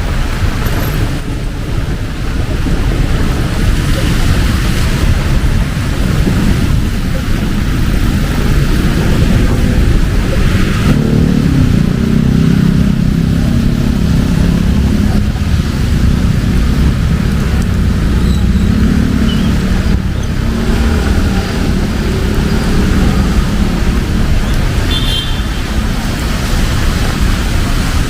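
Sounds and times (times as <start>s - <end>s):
vehicle engines droning: 0.0s - 28.0s.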